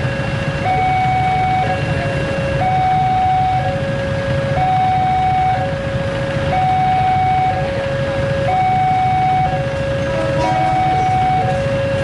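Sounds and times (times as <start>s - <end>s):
idling motorcycles and minibuses: 0.0s - 12.0s
two-tone crossing alarm: 0.0s - 12.0s.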